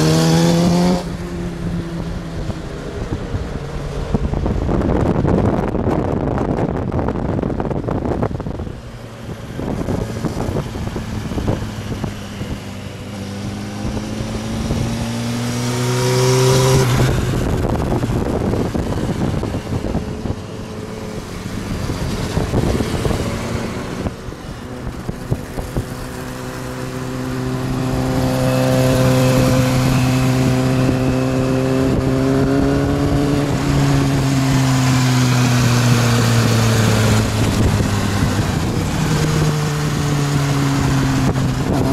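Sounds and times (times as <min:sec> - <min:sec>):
motorcycle engines running: 0:00.0 - 0:41.9
wind noise on microphone: 0:00.0 - 0:41.9.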